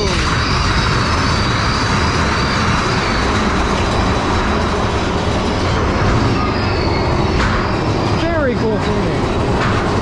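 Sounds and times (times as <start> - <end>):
roller coaster track rumble: 0.0 - 10.0.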